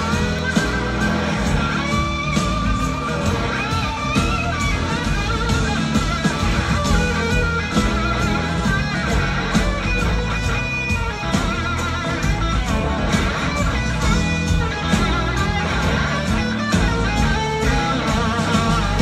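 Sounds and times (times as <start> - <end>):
drums: 0.0 - 19.0
lead electric guitar: 0.0 - 19.0
live rock band playing: 0.0 - 19.0.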